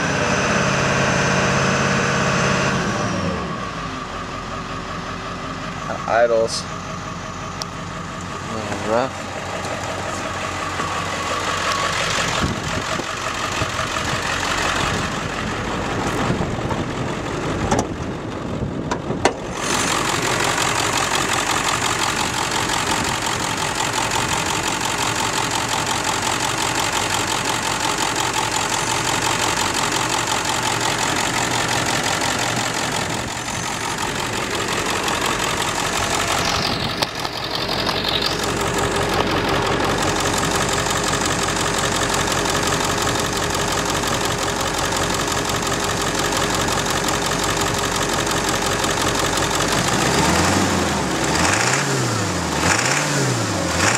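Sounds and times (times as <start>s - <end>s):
diesel engine idling: 0.0s - 52.8s.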